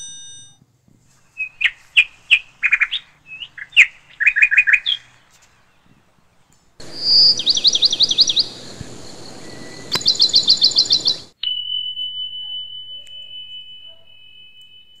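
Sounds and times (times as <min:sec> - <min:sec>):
songbird chirping: 0:01.1 - 0:15.0.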